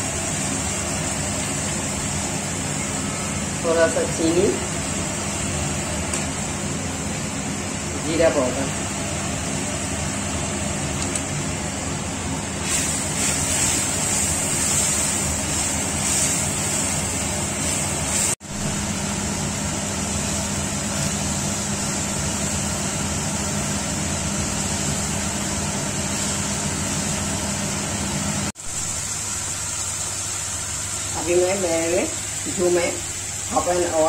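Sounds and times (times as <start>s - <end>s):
spices sizzling in hot oil: 0.0s - 34.0s.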